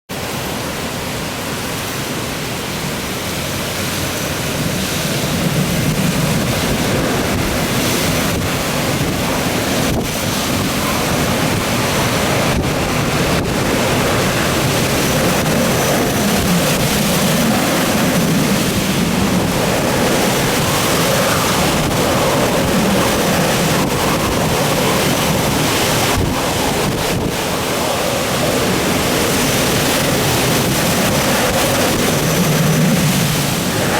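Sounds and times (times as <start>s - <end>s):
strong wind buffeting microphone: 0.1s - 33.9s.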